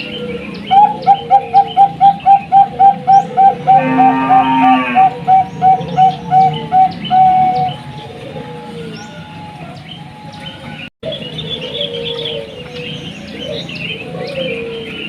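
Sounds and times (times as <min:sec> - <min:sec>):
dove cooing: 0:00.0 - 0:10.4, 0:11.0 - 0:15.0.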